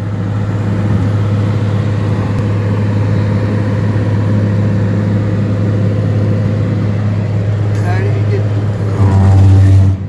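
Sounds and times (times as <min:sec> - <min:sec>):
car cabin drone at highway speed: 0:00.0 - 0:10.0.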